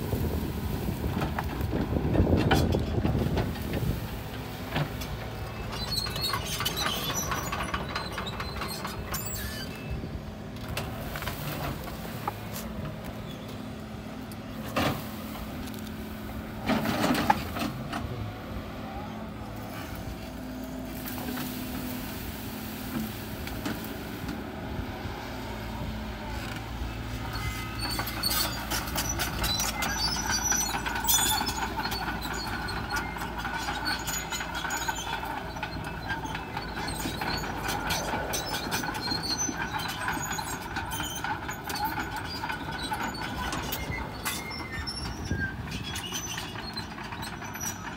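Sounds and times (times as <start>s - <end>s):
excavator diesel engine: 0.0s - 47.9s
hydraulic and bucket noise: 0.0s - 47.9s
steel tracks clanking and squeaking: 0.0s - 47.9s.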